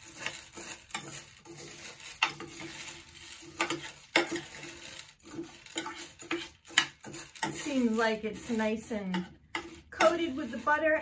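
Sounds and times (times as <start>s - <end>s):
dry pasta rattling: 0.0s - 11.0s
spoon scraping and clinking on glass: 0.0s - 11.0s.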